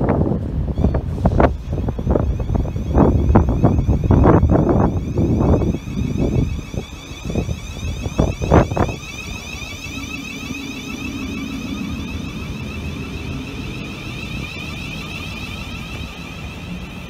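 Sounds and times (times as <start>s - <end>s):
electric train whine: 0.0s - 17.0s
low hum: 0.0s - 17.0s
wind buffeting microphone: 0.0s - 17.0s.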